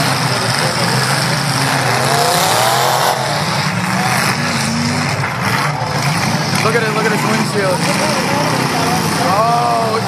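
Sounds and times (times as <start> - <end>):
car engines racing under load: 0.0 - 10.0.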